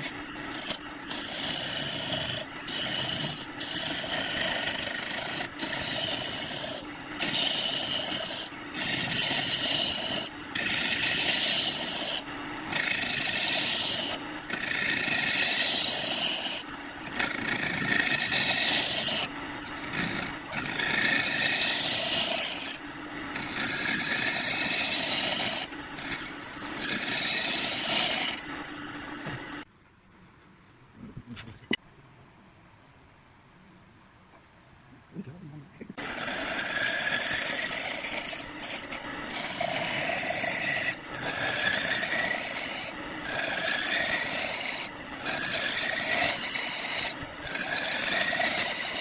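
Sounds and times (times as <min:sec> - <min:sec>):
lathe tool scraping wood: 0:00.0 - 0:29.6, 0:36.0 - 0:49.0.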